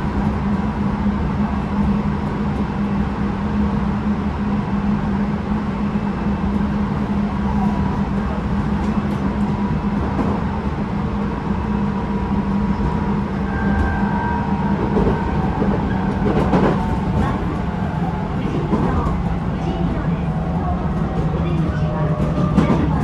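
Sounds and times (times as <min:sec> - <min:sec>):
electric train running rumble: 0:00.0 - 0:23.0.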